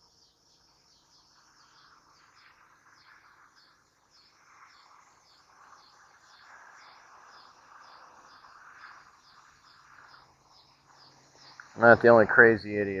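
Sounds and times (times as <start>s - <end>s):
soft steady hiss: 0.0s - 13.0s.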